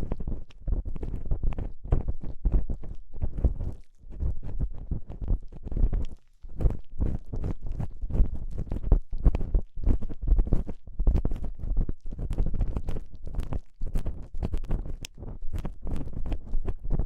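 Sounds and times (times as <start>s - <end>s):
crackly scratching in ear: 0.0s - 17.0s
low rumble of mic contact: 0.0s - 17.0s.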